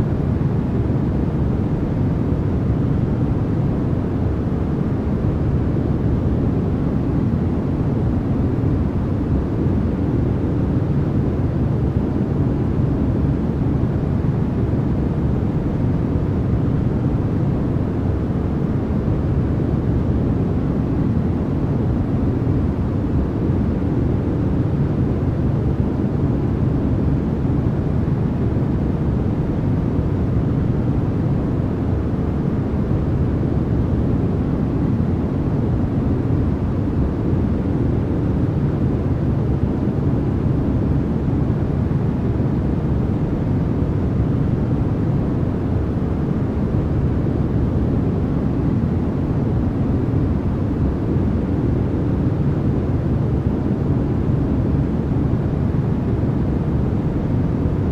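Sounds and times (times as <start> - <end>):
white noise hiss: 0.0 - 57.9.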